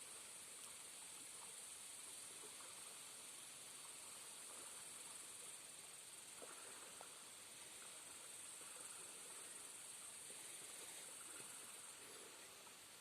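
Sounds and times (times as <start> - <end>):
faint insect chirring: 0.0 - 13.0
faint ticks: 0.0 - 13.0.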